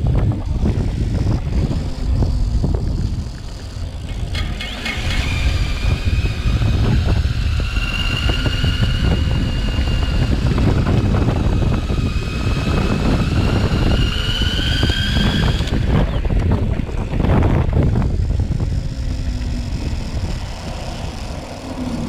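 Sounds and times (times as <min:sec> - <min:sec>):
electric bike motor whining: 0:00.0 - 0:22.0
wind rumble on microphone: 0:00.0 - 0:22.0.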